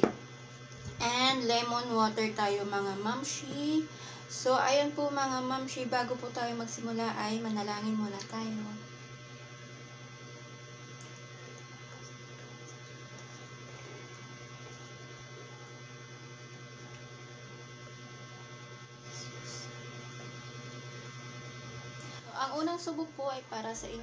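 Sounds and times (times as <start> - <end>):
faint high buzz: 0.0 - 24.0
low electrical hum: 0.0 - 24.0.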